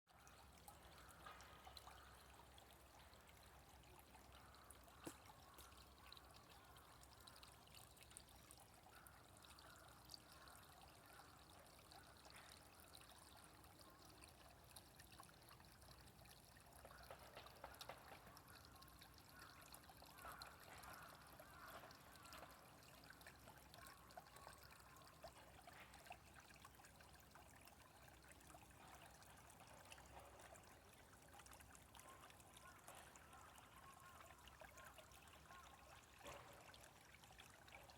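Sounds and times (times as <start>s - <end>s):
stream trickling and babbling: 0.1s - 37.9s.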